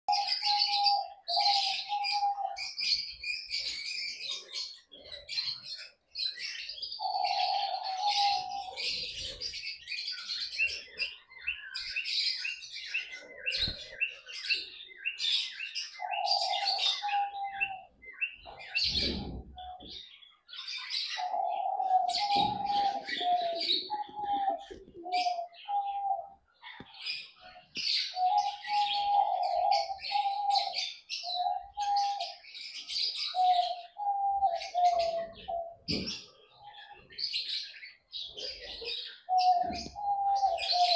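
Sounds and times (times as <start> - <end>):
pet birds chirping and chattering: 0.1 - 40.9.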